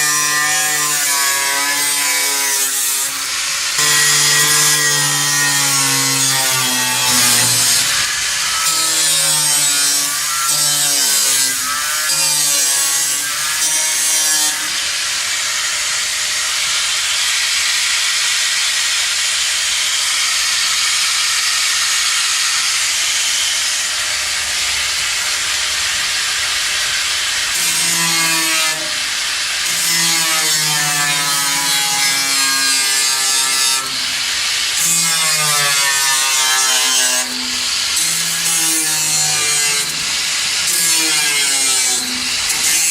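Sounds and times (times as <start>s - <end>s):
electric power saw cutting wood: 0.0s - 42.9s.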